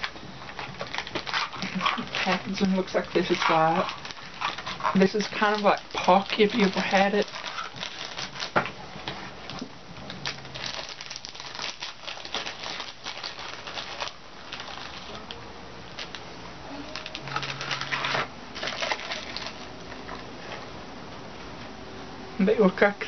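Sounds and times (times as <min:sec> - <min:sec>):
snack packaging crinkling: 0:00.0 - 0:16.2, 0:16.9 - 0:20.7.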